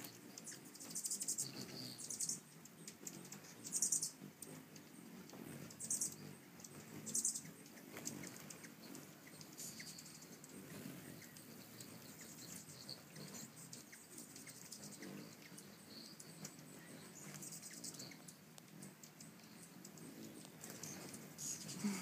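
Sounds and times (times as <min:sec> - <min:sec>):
hummingbird wingbeats humming: 0:00.0 - 0:22.0
hummingbirds chirping: 0:00.0 - 0:22.0.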